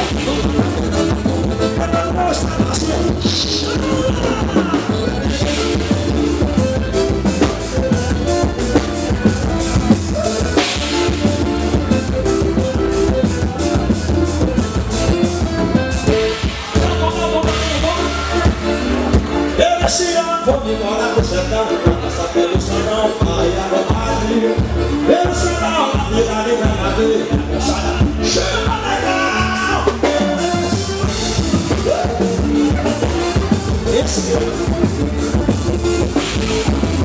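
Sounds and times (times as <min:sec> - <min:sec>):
bass and pitched instruments: 0:00.0 - 0:37.0
drum kit beat: 0:00.0 - 0:37.0
person singing: 0:00.0 - 0:37.0.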